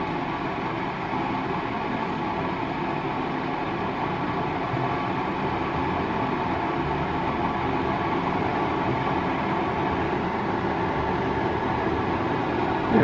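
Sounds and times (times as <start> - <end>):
coffee maker humming and hissing: 0.0 - 13.0.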